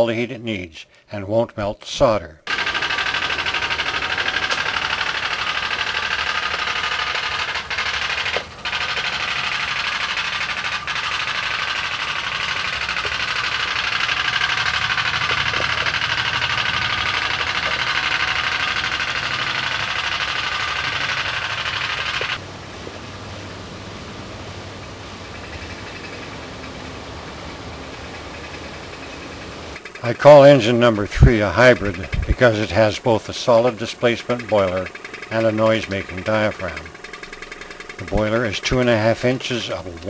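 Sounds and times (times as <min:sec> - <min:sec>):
toy steam engine puttering: 0:02.4 - 0:22.4, 0:25.2 - 0:40.0.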